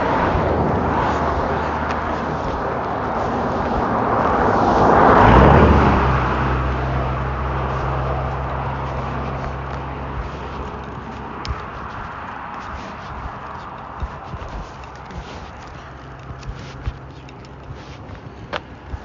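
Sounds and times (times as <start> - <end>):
motor vehicle passing by: 0.0 - 19.0.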